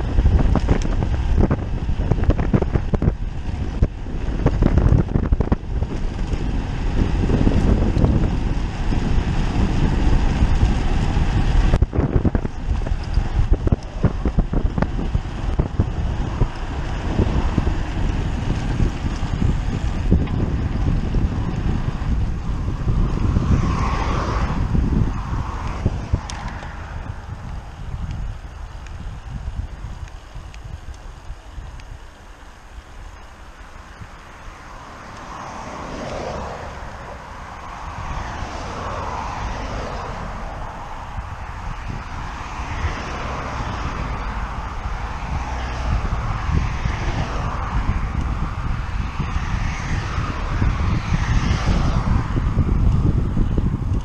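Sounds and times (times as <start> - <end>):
vehicle road noise: 0.0 - 54.0
wind buffeting microphone: 0.0 - 54.0.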